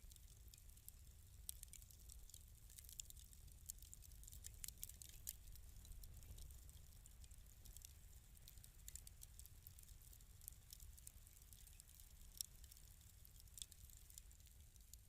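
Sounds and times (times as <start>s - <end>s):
fireplace crackling and popping: 0.0s - 15.0s
low rumble of burning fire: 0.0s - 15.0s.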